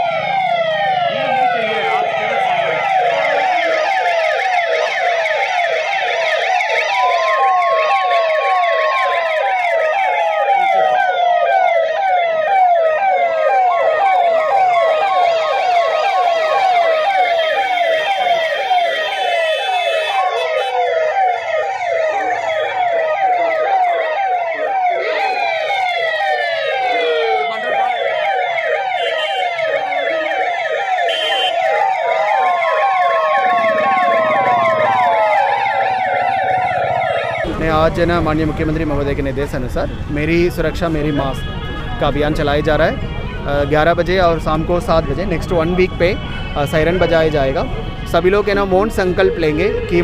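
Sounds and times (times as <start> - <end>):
siren wailing: 0.0 - 50.0
siren yelping: 0.0 - 50.0.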